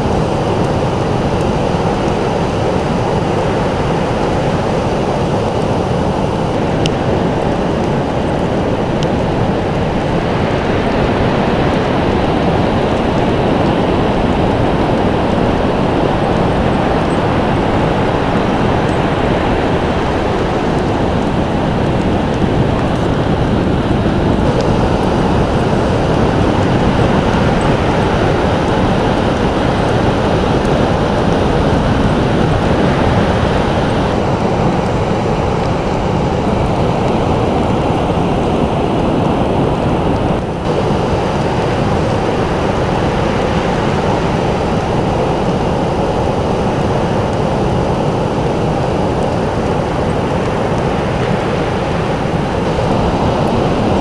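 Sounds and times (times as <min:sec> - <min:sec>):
fast-flowing water rushing: 0:00.0 - 0:54.0.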